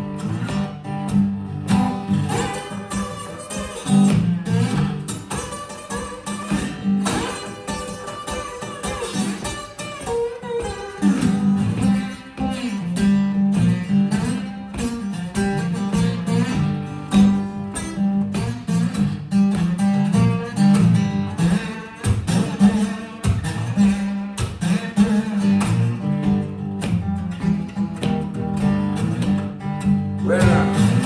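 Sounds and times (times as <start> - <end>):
acoustic guitar blues: 0.0 - 31.0.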